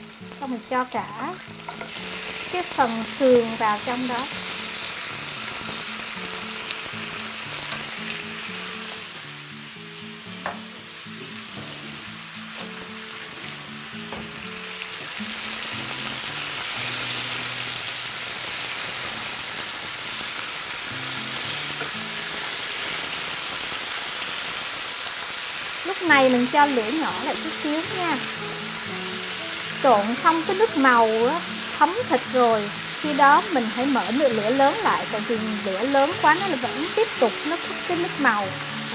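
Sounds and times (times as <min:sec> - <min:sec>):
quiet background music: 0:00.0 - 0:19.4, 0:25.8 - 0:38.9
meat sizzling in a frying pan: 0:00.0 - 0:38.9.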